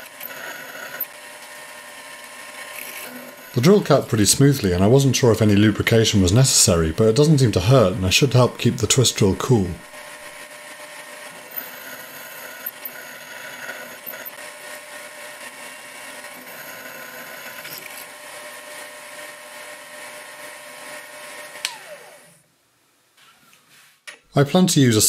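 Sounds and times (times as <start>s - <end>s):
mill motor whining: 0.0s - 22.4s.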